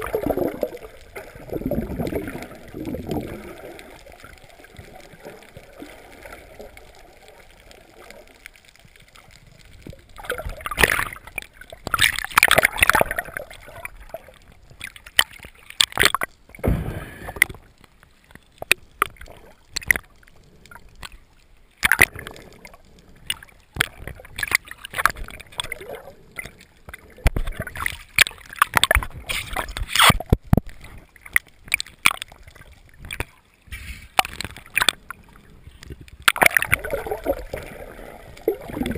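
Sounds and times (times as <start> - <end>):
water splashing and gurgling: 0.0 - 38.9.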